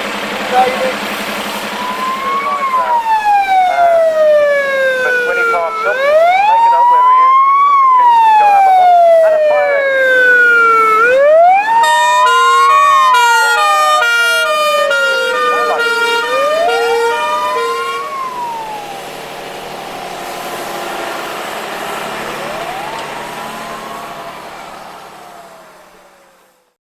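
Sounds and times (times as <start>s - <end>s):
wailing vehicle siren: 0.4s - 26.8s
pulsing siren tone: 1.7s - 26.8s.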